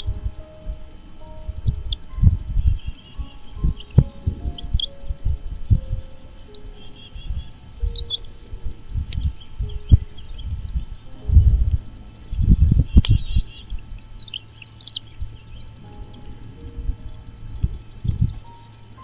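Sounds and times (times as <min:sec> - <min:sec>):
bird chirping: 0:00.0 - 0:19.0
low thumps: 0:00.0 - 0:19.0.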